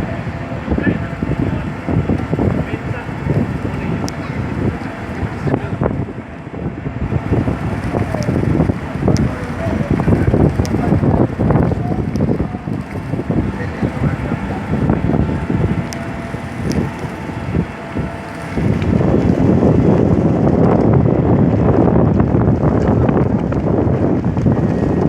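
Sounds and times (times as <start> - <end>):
city street traffic rumble: 0.0 - 25.0
wind buffeting microphone: 0.0 - 25.0.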